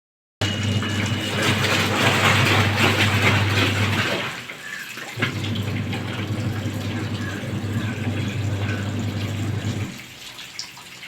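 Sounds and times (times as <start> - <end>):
water rushing in: 0.4 - 10.4
washing machine hum: 0.4 - 11.0.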